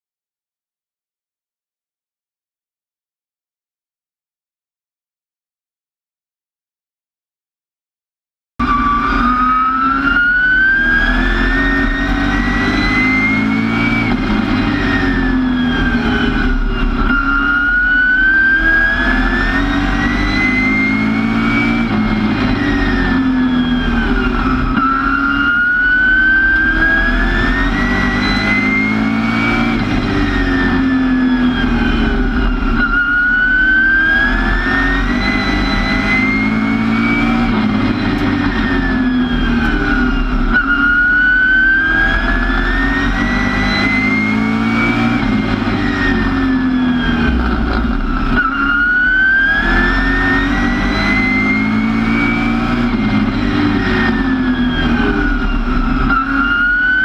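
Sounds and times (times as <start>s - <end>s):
race car engine at speed: 8.6s - 57.0s.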